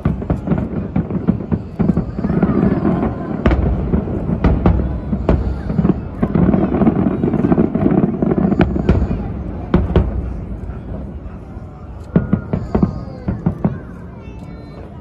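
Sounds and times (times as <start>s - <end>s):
deep rumble of booms: 0.0s - 13.7s
fireworks bangs: 0.0s - 15.0s.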